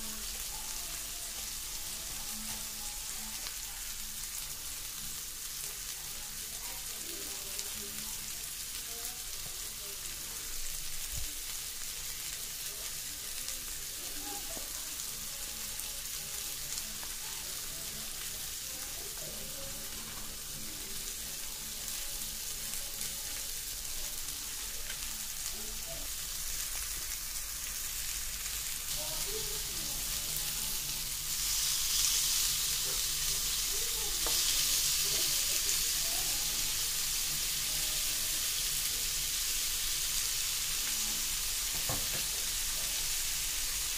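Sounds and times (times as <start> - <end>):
burger patties sizzling on grill: 0.0 - 43.9.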